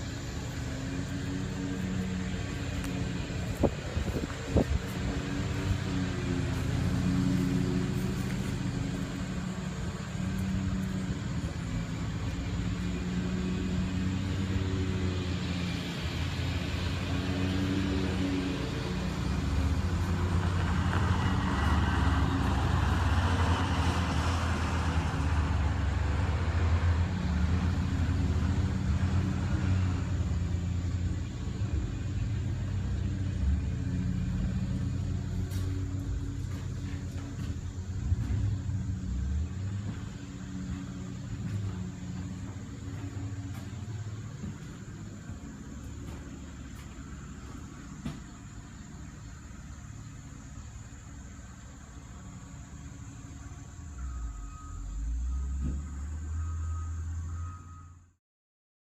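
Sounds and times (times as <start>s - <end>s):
engine running low rumble: 0.0s - 58.2s.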